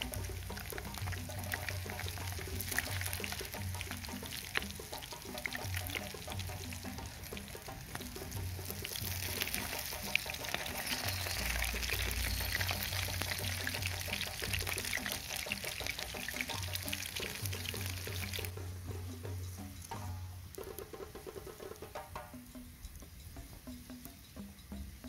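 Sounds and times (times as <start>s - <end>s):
background music with low beat: 0.0s - 25.0s
frying batter sizzling and crackling: 0.0s - 25.0s.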